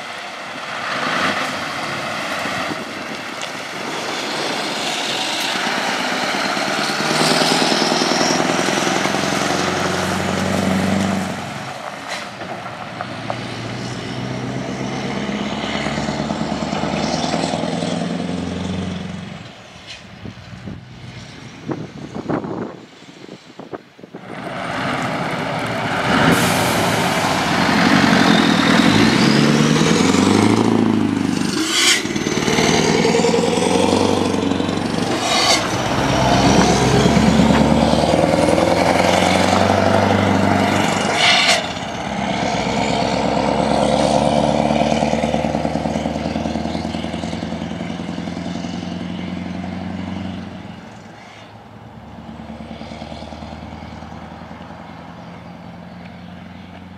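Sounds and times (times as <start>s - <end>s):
diesel truck accelerating: 0.0s - 56.9s.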